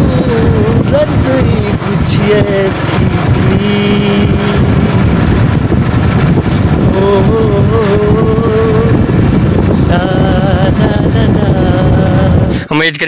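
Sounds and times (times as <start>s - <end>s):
motorcycle engine rumble: 0.0s - 12.8s
wind buffeting microphone: 0.0s - 13.0s.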